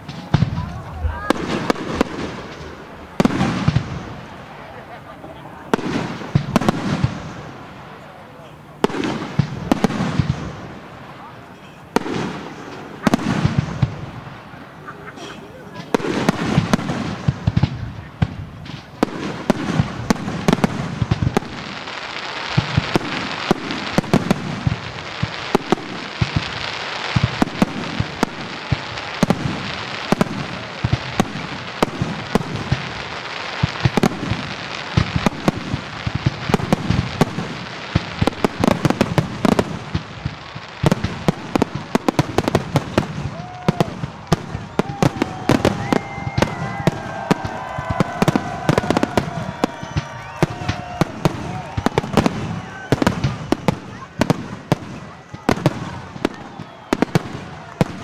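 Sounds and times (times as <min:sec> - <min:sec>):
firework crackle: 0:00.0 - 0:58.0.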